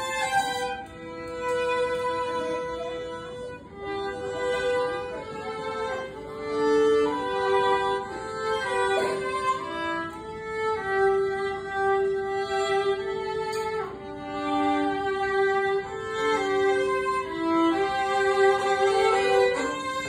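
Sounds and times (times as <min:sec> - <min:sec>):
violin duet: 0:00.0 - 0:20.0.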